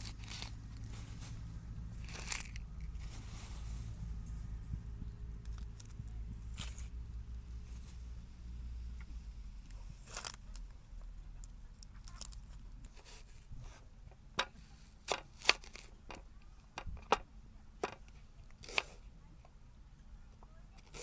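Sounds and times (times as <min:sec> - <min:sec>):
rustling and crinkling handling: 0:00.0 - 0:08.3, 0:09.1 - 0:19.6.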